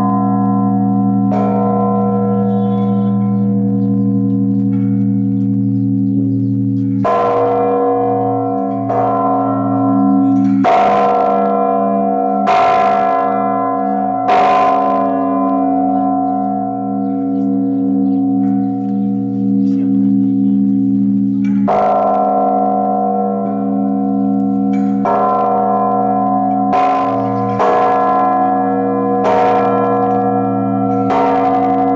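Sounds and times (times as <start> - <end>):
large church bell ringing: 0.0 - 31.9.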